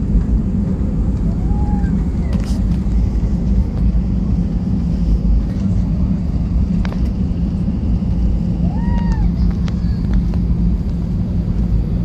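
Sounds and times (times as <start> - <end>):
airliner rumble inside cabin: 0.0 - 12.0.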